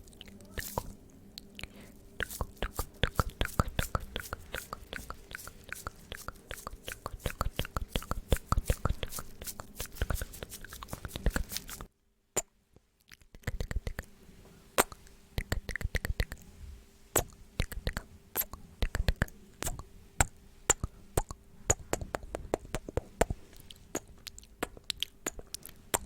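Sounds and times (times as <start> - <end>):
wet mouth clicks and smacks: 0.2 - 14.1, 14.8 - 16.4, 17.2 - 26.0.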